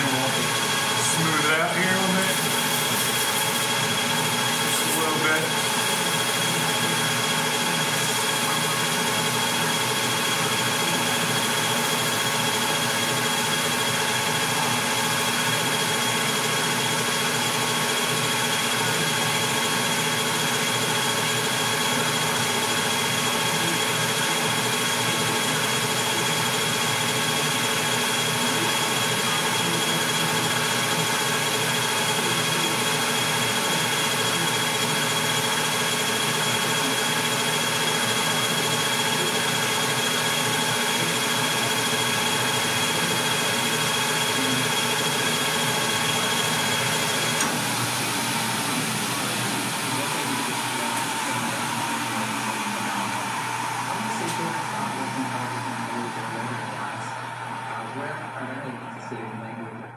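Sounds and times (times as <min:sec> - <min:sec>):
metal lathe running: 0:00.0 - 0:59.8
steady high machine whine: 0:00.0 - 0:59.9.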